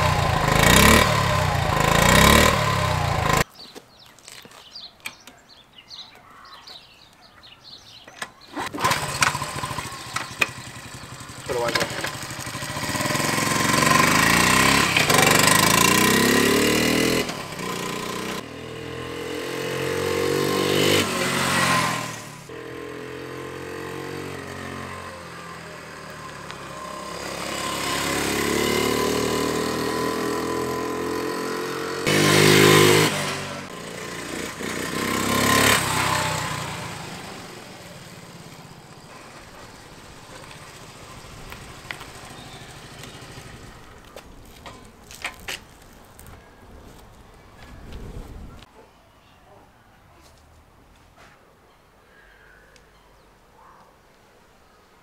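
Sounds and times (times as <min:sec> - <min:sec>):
small motorbike engine shifting gears: 0:00.0 - 0:03.5, 0:07.9 - 0:48.7.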